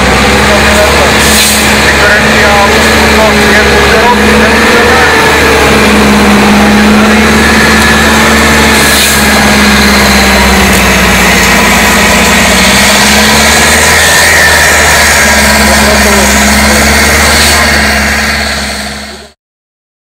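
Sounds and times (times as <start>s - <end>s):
truck diesel engine at low revs: 0.0s - 19.4s.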